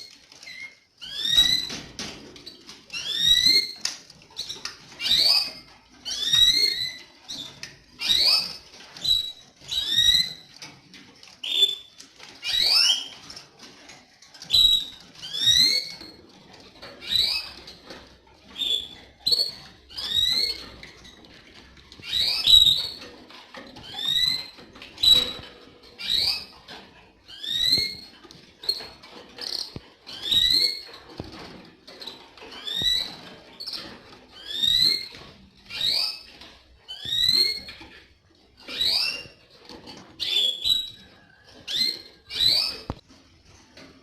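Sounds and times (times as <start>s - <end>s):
canary chirping: 0.0s - 44.0s.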